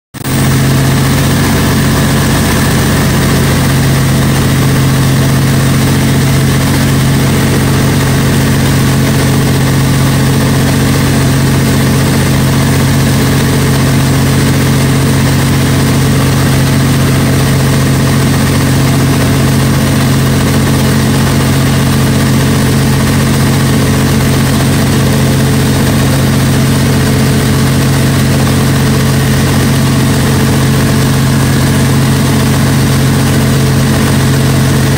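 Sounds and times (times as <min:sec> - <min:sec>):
diesel generator droning: 0:00.2 - 0:34.9.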